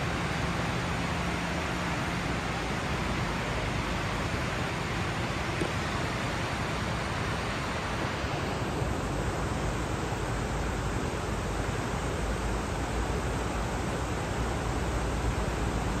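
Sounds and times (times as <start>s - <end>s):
river rushing through rapids: 0.0s - 16.0s.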